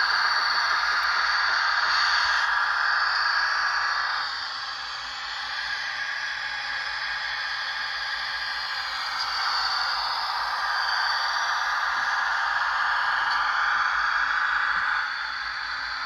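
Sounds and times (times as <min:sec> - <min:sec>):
model rail car rushing: 0:00.0 - 0:16.0.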